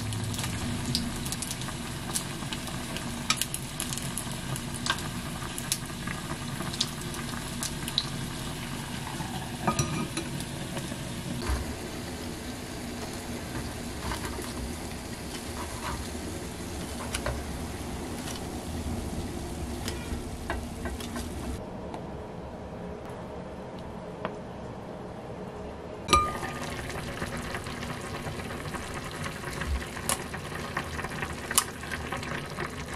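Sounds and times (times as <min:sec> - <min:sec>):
food sizzling in hot oil: 0:00.0 - 0:21.6, 0:26.1 - 0:32.9.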